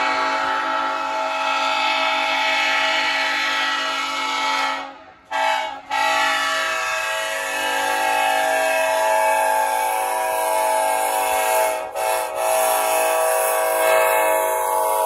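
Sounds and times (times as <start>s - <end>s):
locomotive air horn chord: 0.0s - 15.0s.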